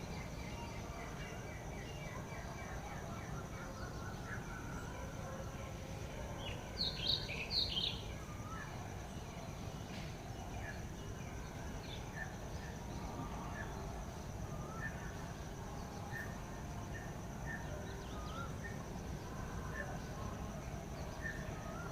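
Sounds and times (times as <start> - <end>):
wild birds chirping: 0.0 - 21.9.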